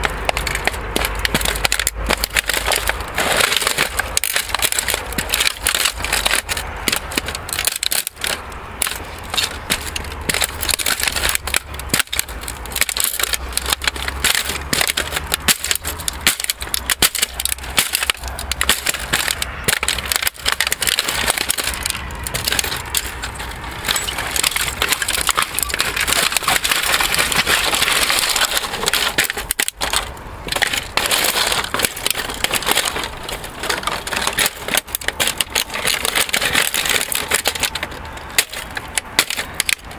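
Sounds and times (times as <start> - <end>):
plastic cracking underfoot: 0.0 - 39.9.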